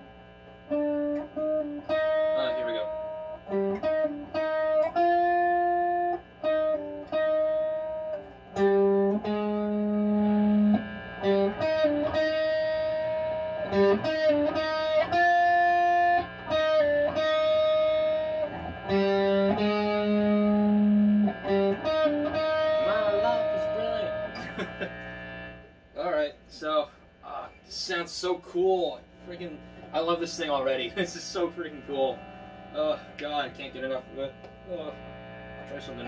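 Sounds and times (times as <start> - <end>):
clean electric guitar riff: 0.0 - 26.6, 29.1 - 36.0.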